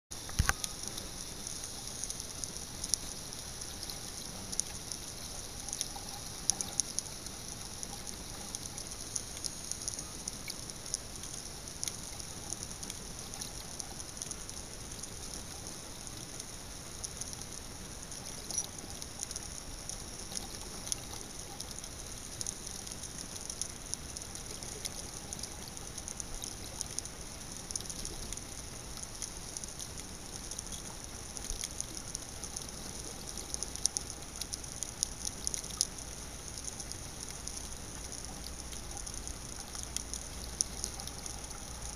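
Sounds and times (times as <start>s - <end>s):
reef clicks and crackles: 0.1s - 41.9s.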